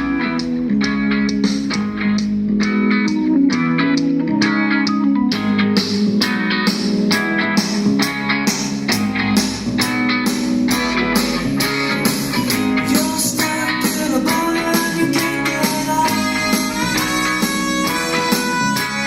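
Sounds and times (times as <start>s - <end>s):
guitar music through loudspeaker: 0.0s - 19.0s.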